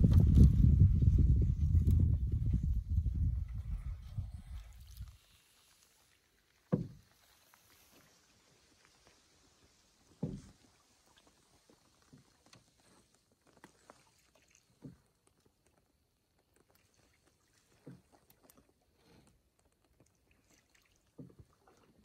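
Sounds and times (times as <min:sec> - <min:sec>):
canoe paddle strokes: 0:00.0 - 0:22.0.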